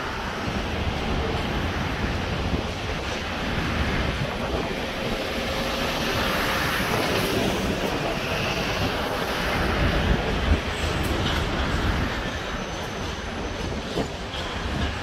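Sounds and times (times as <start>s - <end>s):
freight train wheels rumbling: 0.0s - 15.0s
wind on microphone: 0.1s - 15.0s.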